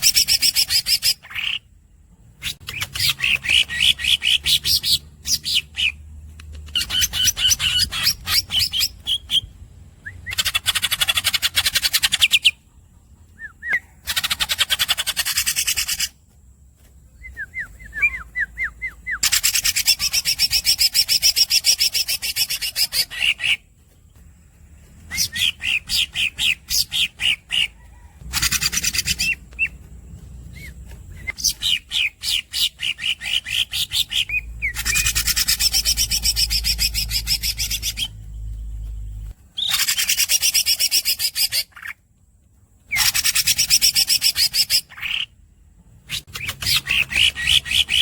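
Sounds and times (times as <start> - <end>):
bird chirping and trilling: 0.0 - 1.7, 2.4 - 6.0, 6.6 - 16.2, 17.2 - 24.2, 24.9 - 42.0, 42.9 - 45.4, 46.0 - 48.0.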